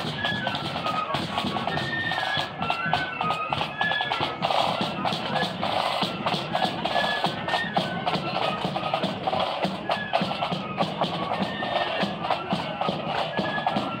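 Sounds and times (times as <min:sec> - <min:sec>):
flute melody: 0:00.0 - 0:14.0
snare and bass drums beat: 0:00.0 - 0:14.0.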